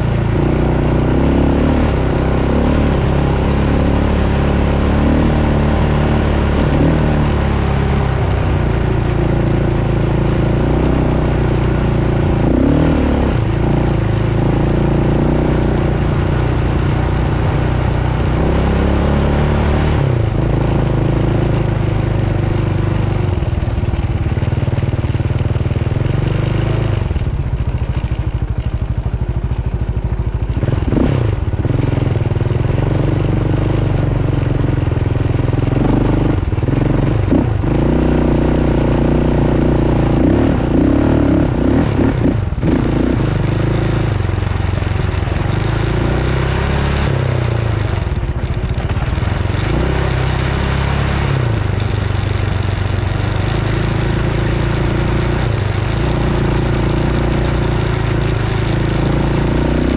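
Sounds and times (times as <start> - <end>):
off-road vehicle engine revving: 0.0 - 23.2, 30.6 - 59.9.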